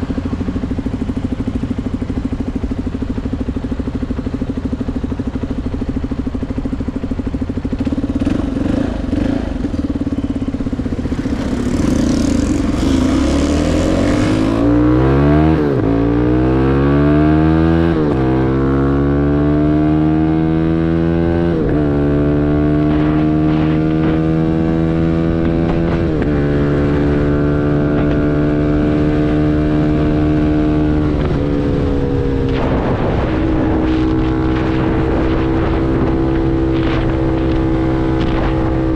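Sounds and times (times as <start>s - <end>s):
motorcycle engine revving through gears: 0.0s - 38.9s.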